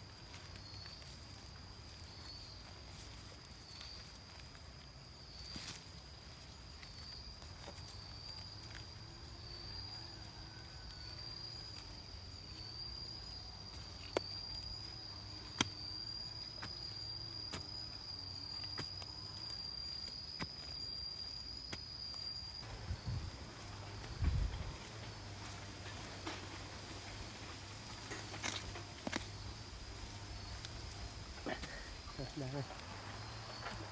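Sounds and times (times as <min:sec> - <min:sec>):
insect trilling: 0:00.0 - 0:33.9.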